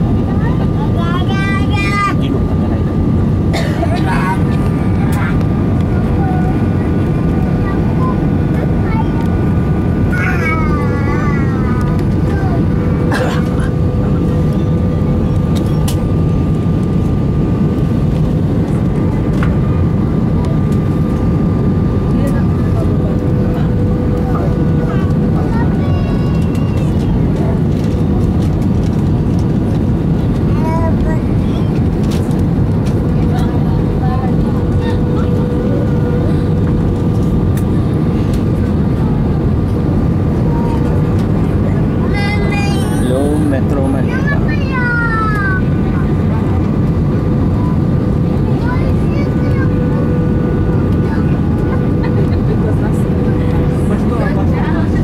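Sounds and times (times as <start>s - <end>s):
airplane cabin roar: 0.0s - 55.0s.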